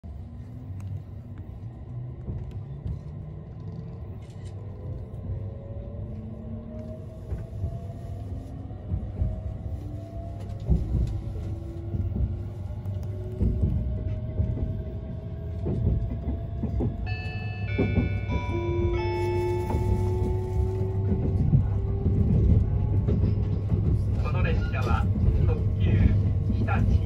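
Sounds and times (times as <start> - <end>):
train running rumble: 0.1 - 27.0.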